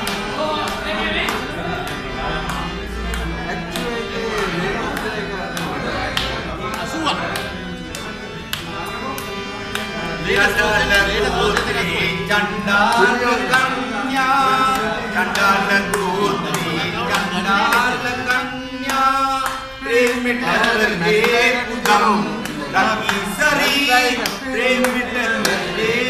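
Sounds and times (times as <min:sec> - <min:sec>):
hand-clapping: 0:00.0 - 0:26.0
men singing together: 0:00.0 - 0:26.0
percussion beat: 0:00.0 - 0:26.0.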